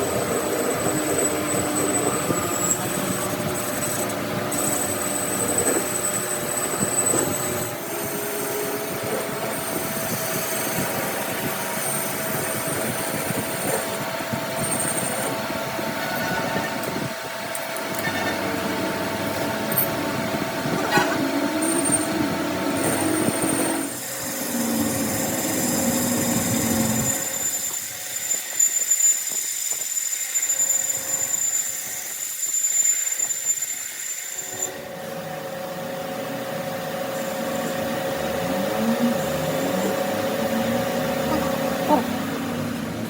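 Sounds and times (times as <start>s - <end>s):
workshop machinery whining: 0.0s - 43.0s.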